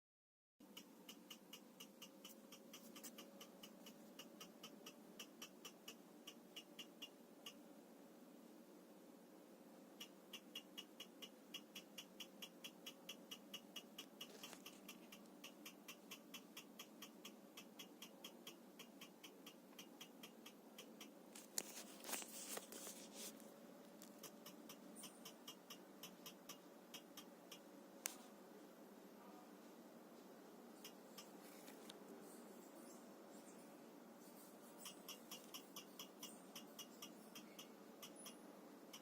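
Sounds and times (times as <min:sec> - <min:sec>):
faint steady hum: 0:00.6 - 0:39.0.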